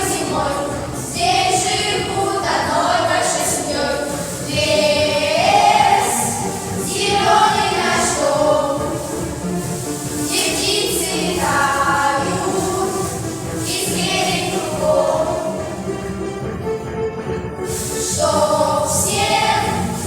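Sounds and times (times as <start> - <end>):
group singing in unison: 0.0 - 9.2, 10.2 - 15.8, 18.0 - 20.0
musical accompaniment: 0.0 - 20.0.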